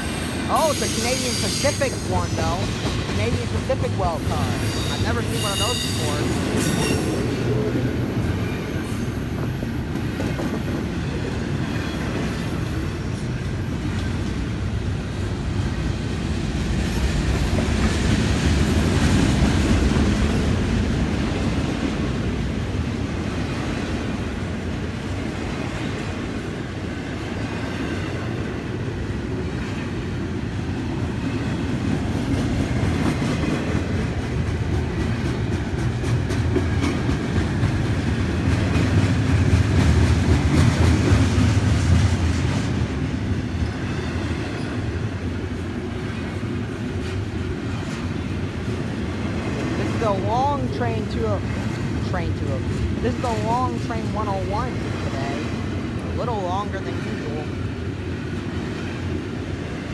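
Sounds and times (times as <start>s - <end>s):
train wheels rumbling on rail: 0.0s - 56.4s, 57.1s - 59.9s
clickety-clack over rail joints: 0.7s - 50.6s.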